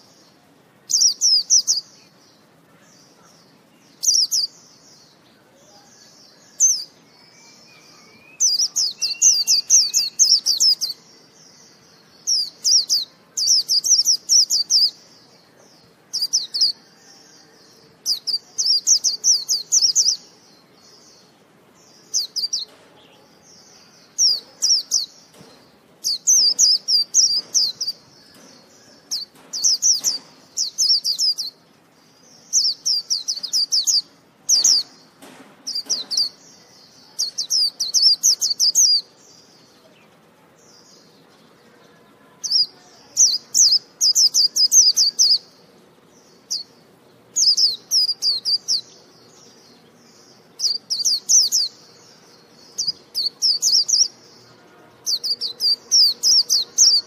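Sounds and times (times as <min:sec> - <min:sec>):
bird singing high twittering notes: 0:03.1 - 0:31.6, 0:32.4 - 0:57.0.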